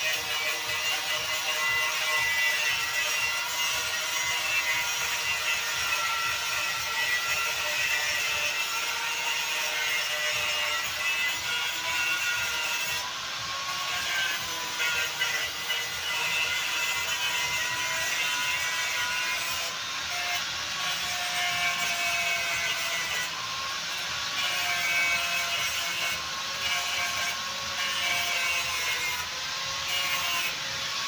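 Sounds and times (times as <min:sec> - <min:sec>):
power tool whining on metal: 0:00.0 - 0:31.0.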